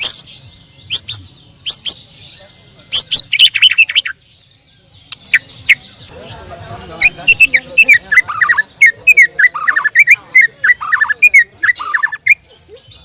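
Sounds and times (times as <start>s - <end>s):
bird singing whistled notes and trills: 0.0s - 13.0s.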